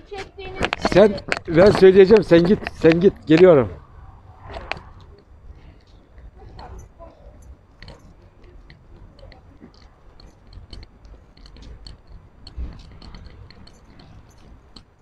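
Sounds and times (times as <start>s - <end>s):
footsteps on pavement: 0.0s - 3.7s, 4.8s - 15.0s.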